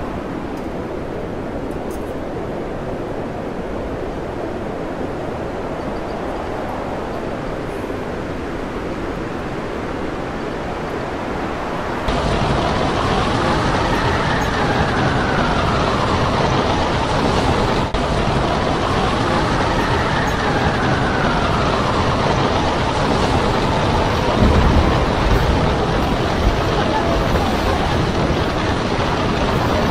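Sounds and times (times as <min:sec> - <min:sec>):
heavy sea rushing: 0:00.0 - 0:29.9
storm wind: 0:00.0 - 0:29.9
wind buffeting microphone: 0:00.0 - 0:29.9.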